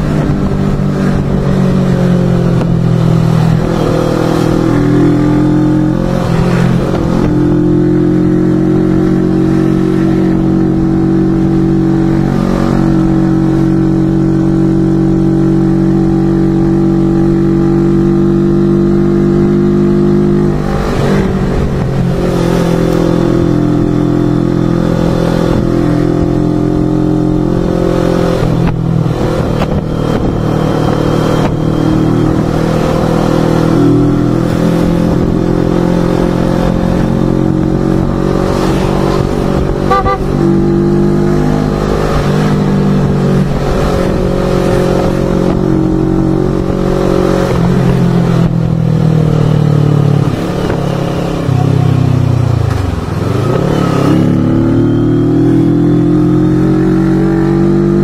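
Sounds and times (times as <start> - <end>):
wind rumble on microphone: 0.0 - 18.0, 20.4 - 26.8, 27.4 - 54.8
motorcycle engine running: 0.0 - 57.4.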